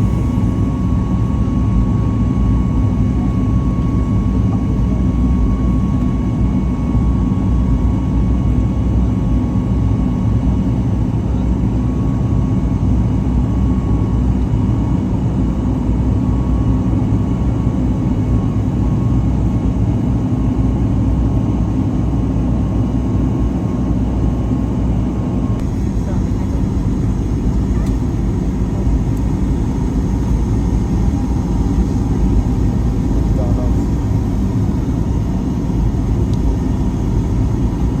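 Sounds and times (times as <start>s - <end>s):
jet engine cabin rumble: 0.0s - 38.0s
jet engine whine: 0.0s - 38.0s.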